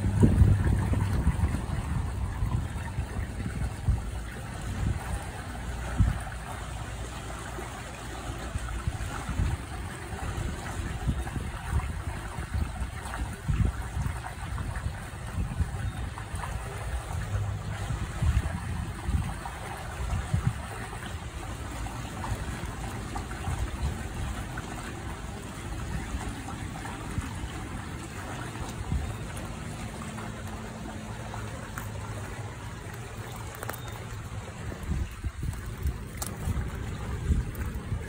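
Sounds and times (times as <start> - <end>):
water trickling: 0.0 - 38.0
wind rumble on microphone: 0.0 - 38.0.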